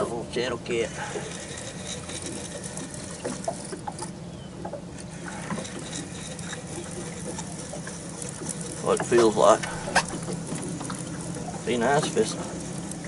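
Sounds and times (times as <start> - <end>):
small waves lapping on boat hull: 0.0 - 13.0.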